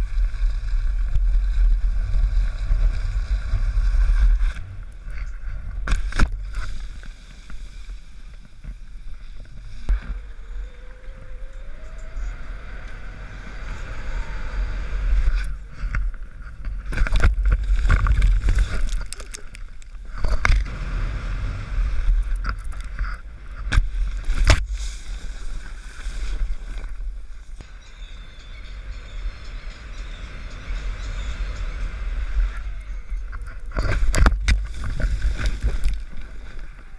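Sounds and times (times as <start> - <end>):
skis sliding on snow: 0.0 - 10.4, 13.1 - 28.3, 29.0 - 36.9.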